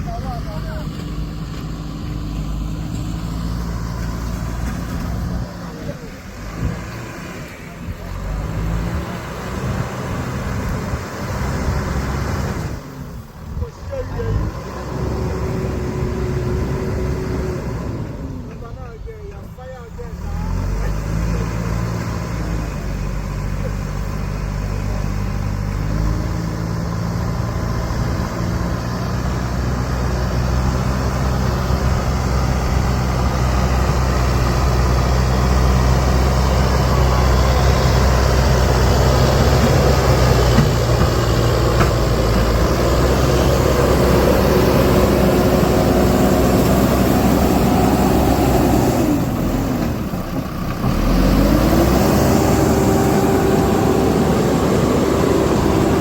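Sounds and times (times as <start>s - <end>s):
vehicle engine running and revving: 0.0s - 18.7s, 20.0s - 56.0s.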